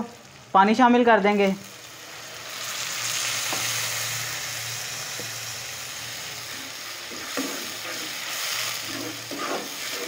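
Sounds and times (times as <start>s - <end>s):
masala sizzling in ghee: 0.0s - 10.0s.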